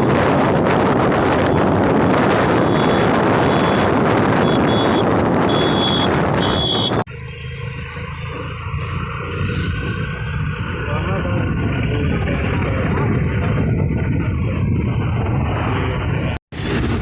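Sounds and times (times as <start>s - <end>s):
wind on microphone: 0.0s - 7.1s, 9.2s - 17.0s
road vehicle noise: 0.0s - 17.0s.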